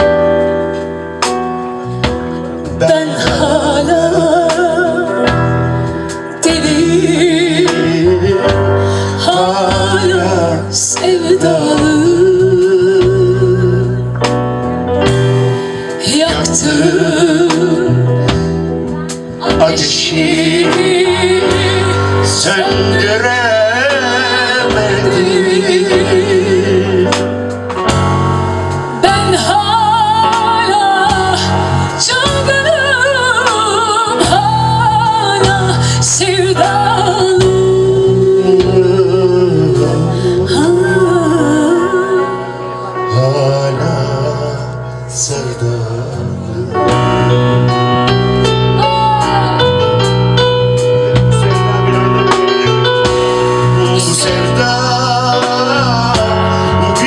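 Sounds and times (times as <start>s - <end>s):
band of keyboard bass and drums: 0.0s - 57.0s
man and woman singing duet: 2.7s - 14.1s, 15.9s - 27.6s, 29.0s - 47.4s, 48.1s - 50.6s, 53.5s - 57.0s.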